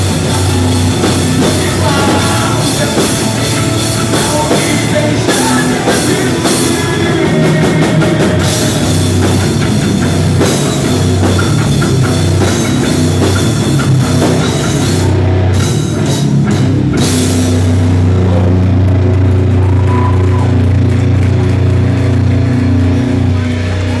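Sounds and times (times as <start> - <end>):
drum kit: 0.0 - 24.0
guitar: 0.0 - 24.0
heavy rock music: 0.0 - 24.0.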